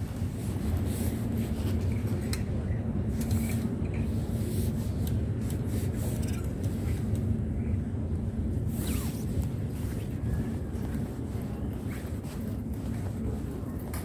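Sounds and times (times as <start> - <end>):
fabric rustling on microphone: 0.0 - 7.4, 8.2 - 14.0
steady low rumble: 0.0 - 14.0.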